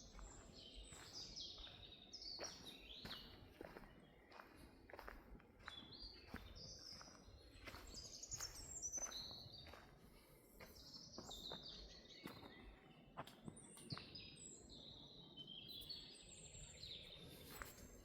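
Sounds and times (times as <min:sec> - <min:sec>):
footsteps on forest floor: 0:00.0 - 0:14.1, 0:17.2 - 0:18.0
small songbirds chirping: 0:00.0 - 0:18.0.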